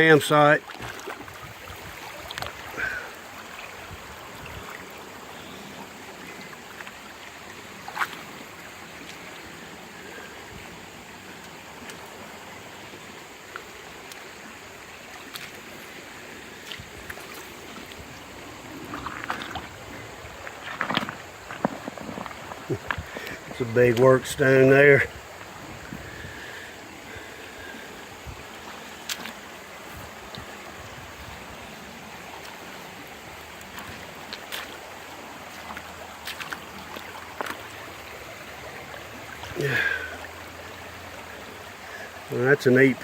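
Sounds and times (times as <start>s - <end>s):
creek water rushing over stones: 0.0s - 43.0s.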